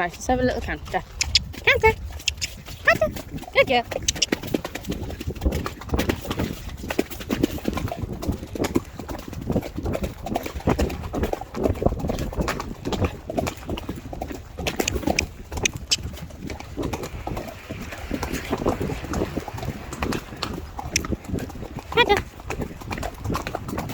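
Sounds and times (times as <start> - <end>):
horse hoofbeats cantering: 0.0 - 23.9.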